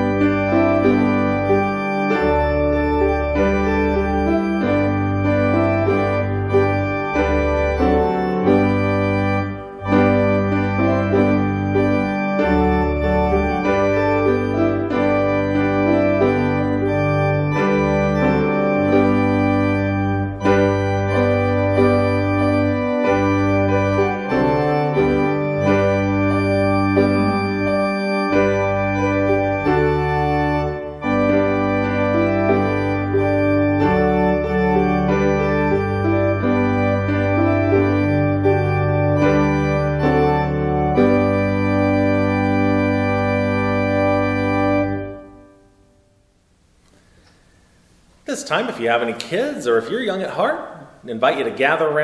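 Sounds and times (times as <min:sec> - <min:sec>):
organ playing slow chords: 0:00.0 - 0:52.0.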